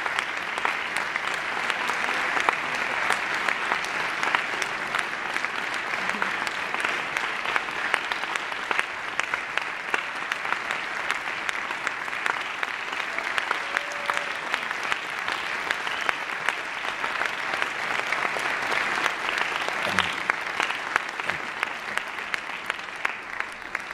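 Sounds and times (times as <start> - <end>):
audience applauding: 0.0 - 23.9.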